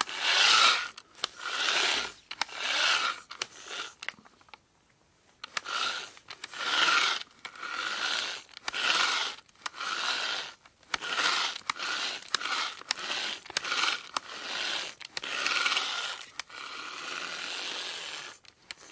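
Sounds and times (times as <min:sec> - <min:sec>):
hand drill rasping scrape: 0:00.0 - 0:04.5, 0:05.4 - 0:18.9.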